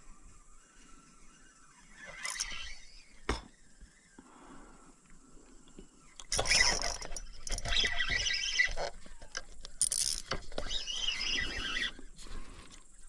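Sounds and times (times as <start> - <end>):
fishing reel whirring and clicking: 0.2 - 4.2, 5.8 - 12.8.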